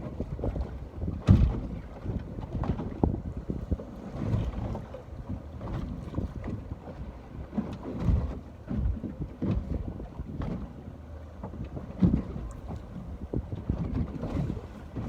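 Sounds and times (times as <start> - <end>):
ocean water lapping: 0.0 - 15.0
wind buffeting microphone: 0.0 - 15.0.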